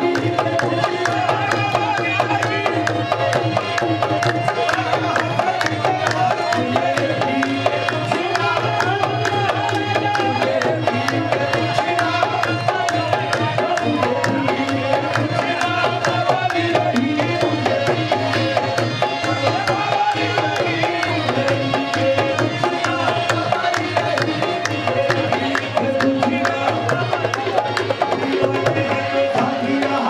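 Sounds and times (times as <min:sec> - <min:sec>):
tabla playing quick beat: 0:00.0 - 0:30.0.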